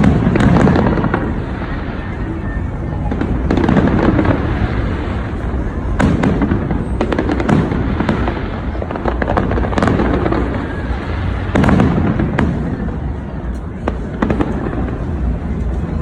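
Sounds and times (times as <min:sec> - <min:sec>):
heavy firework bangs: 0:00.0 - 0:15.5
fireworks bursting and crackling: 0:00.0 - 0:16.0.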